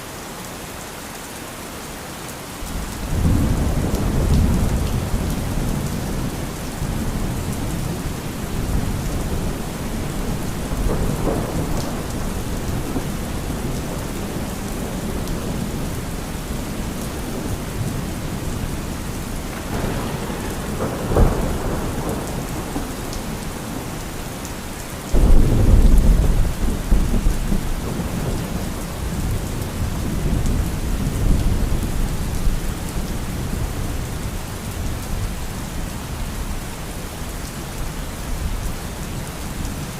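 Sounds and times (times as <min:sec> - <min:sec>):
steady rain: 0:00.0 - 0:39.9
thunder rumbling and cracking: 0:02.6 - 0:35.6.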